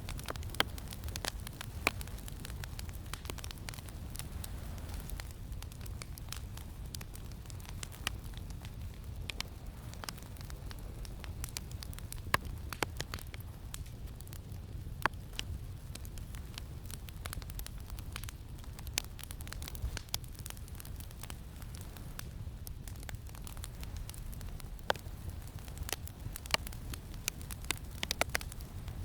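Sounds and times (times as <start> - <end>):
campfire crackling and popping: 0.0 - 29.0
low rumble of wind: 0.0 - 29.0.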